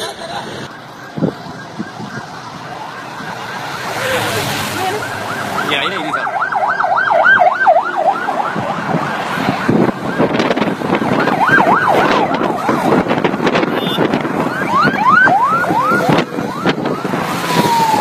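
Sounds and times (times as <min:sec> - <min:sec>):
sirens yelping: 0:00.0 - 0:18.0
vehicles driving past: 0:00.0 - 0:18.0.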